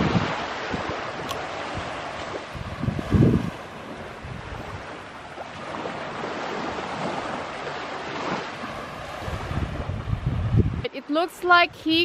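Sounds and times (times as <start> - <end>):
small waves washing onto beach: 0.0 - 12.0
wind rumbling on microphone: 0.0 - 12.0.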